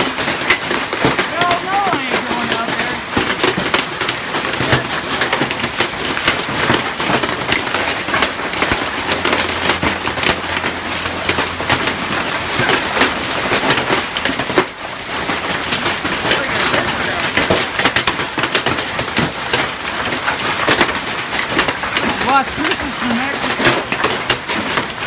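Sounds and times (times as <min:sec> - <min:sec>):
hailstones pelting down: 0:00.0 - 0:25.0.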